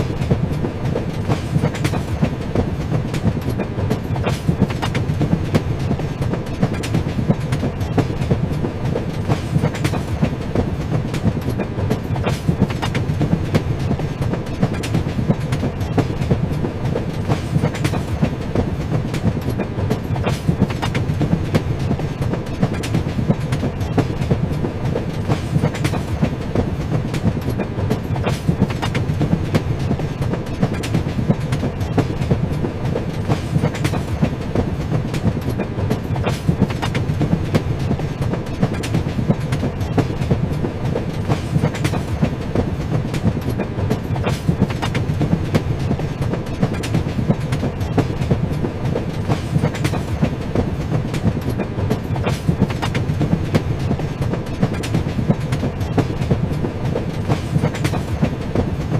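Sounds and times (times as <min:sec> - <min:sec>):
train cars rumbling on track: 0:00.0 - 0:58.9
wheel clacks over rail joints: 0:00.0 - 0:58.9.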